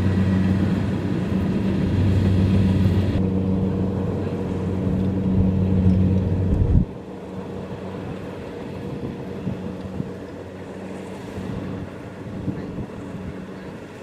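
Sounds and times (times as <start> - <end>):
combine harvester diesel engine: 0.0 - 14.0.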